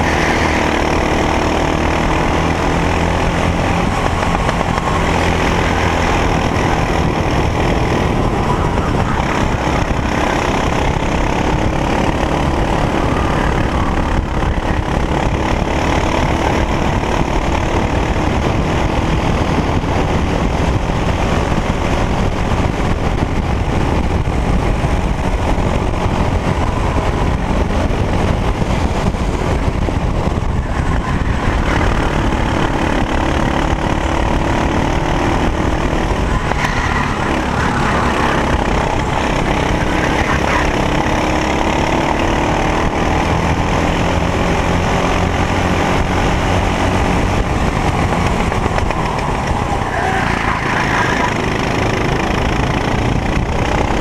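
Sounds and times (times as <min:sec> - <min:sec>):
racing kart engine: 0:00.0 - 0:54.0.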